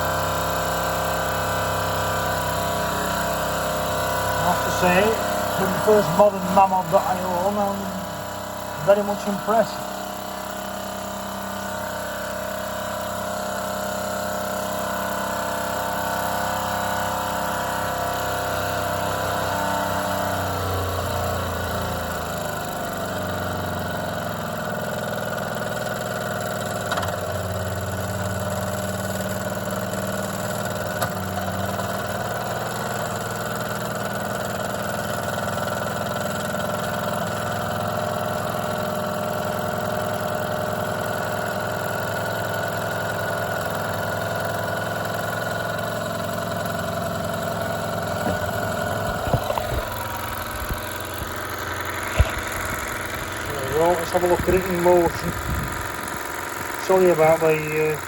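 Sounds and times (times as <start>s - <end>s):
toy steam engine running: 0.0s - 15.6s, 18.5s - 58.0s.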